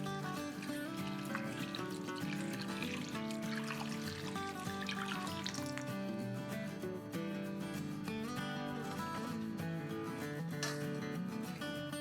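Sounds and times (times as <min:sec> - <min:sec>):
plucked guitar tones: 0:00.0 - 0:12.0.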